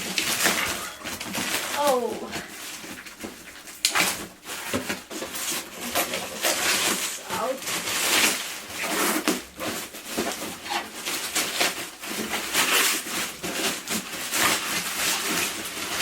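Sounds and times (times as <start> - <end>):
plastic packaging rustling: 0.0 - 16.0.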